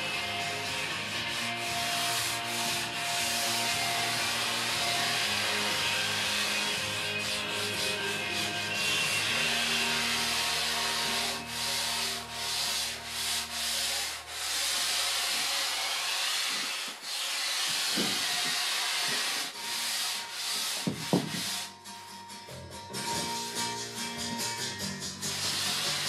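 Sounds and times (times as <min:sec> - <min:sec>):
sandpaper rasping on foam board: 0:00.0 - 0:21.7, 0:25.2 - 0:26.0.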